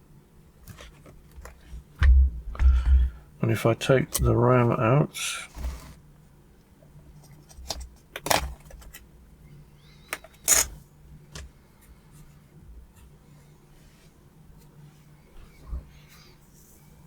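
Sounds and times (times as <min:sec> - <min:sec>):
faint low steady hum: 0:00.0 - 0:17.0.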